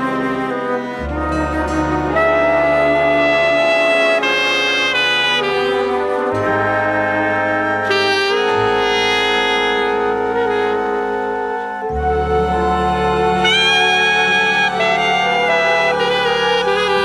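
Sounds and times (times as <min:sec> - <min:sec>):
bass: 0:00.0 - 0:17.0
brass and saxophones chords: 0:00.0 - 0:17.0.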